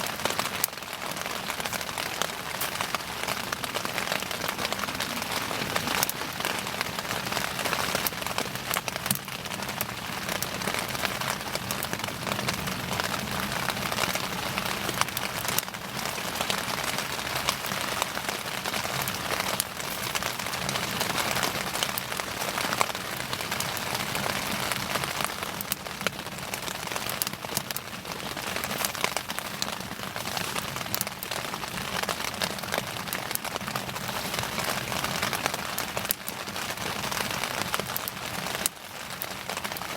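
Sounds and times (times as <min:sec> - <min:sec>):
bonfire crackling: 0:00.0 - 0:39.9
fire popping: 0:00.0 - 0:39.9.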